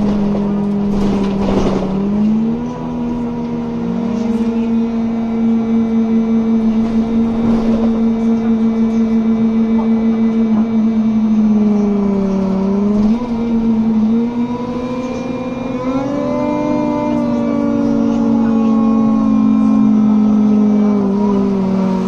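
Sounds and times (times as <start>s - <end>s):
bus cooling fans humming: 0.0s - 22.0s.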